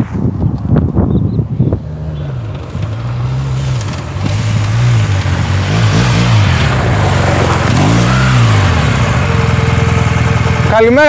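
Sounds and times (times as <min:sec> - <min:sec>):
motorcycle engine revving: 0:01.5 - 0:11.0.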